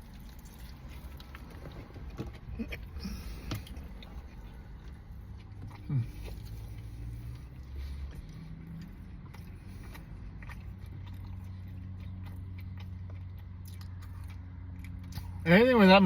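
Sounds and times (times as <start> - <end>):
person chewing food: 0.0 - 15.4.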